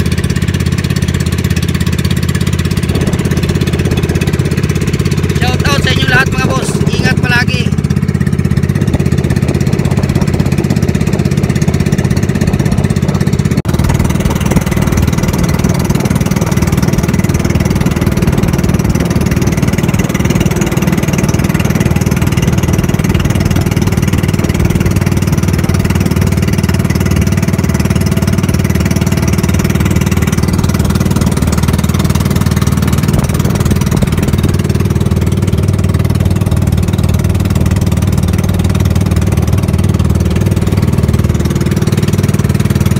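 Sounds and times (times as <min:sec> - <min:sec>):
boat engine running: 0:00.0 - 0:42.9.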